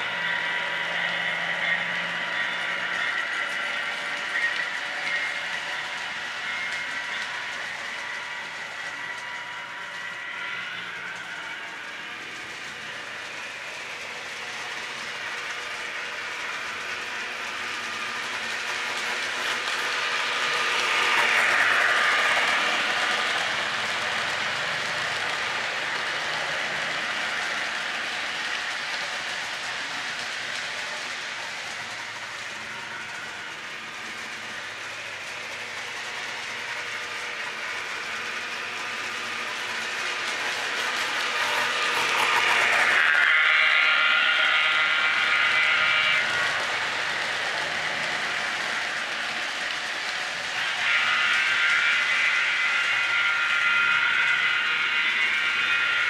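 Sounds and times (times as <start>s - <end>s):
model train wheels clicking on rails: 0.0s - 56.0s.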